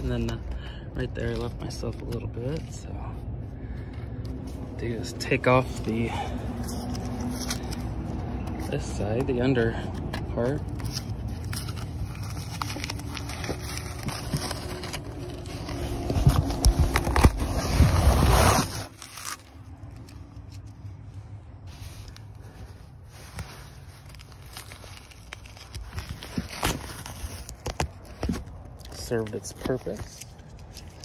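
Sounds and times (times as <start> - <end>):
paper and tape rustling: 0.0 - 31.0.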